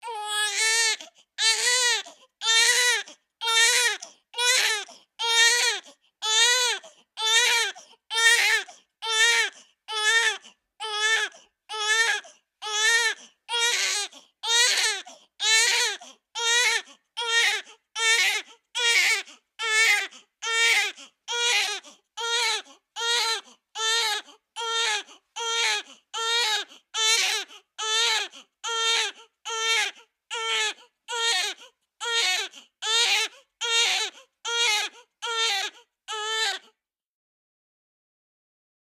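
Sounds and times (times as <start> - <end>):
infant crying: 0.0 - 36.8.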